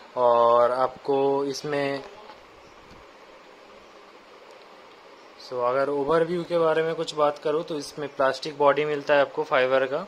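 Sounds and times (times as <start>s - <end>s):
faint room tone hiss: 0.0s - 10.0s.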